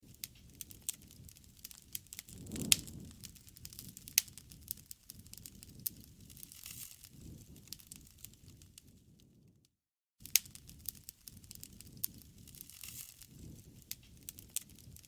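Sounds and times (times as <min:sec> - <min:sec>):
bonfire crackling and popping: 0:00.0 - 0:09.5, 0:10.2 - 0:15.0
low rumble of flames: 0:00.0 - 0:09.6, 0:10.2 - 0:15.0.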